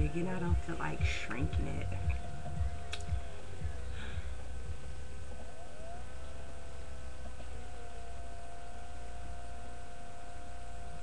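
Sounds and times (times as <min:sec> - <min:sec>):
steady hum and hiss: 0:00.0 - 0:11.0.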